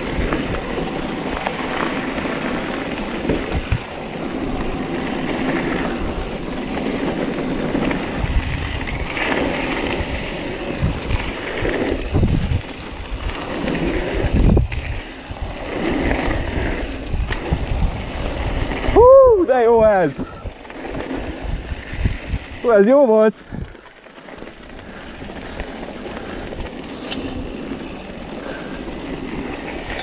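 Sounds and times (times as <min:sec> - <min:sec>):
bike tyres on gravel: 0:00.0 - 0:30.0
wind buffeting microphone: 0:00.0 - 0:30.0.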